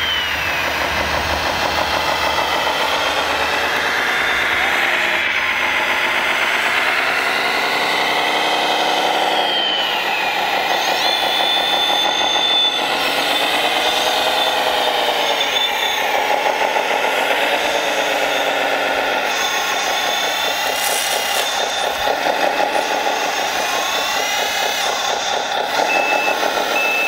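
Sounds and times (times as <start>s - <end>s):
thin high whine: 0.0s - 27.0s
toy loader drive and hydraulics: 0.0s - 27.0s.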